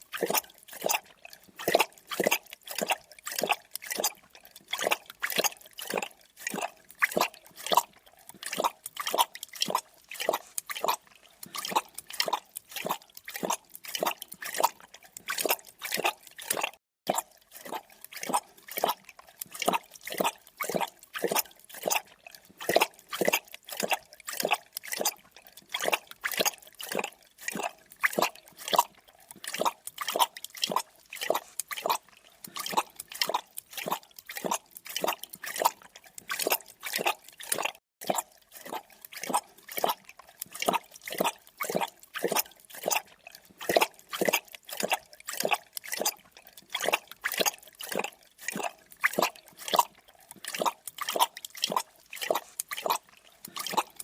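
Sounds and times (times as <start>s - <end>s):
animal lapping water: 0.0s - 54.0s.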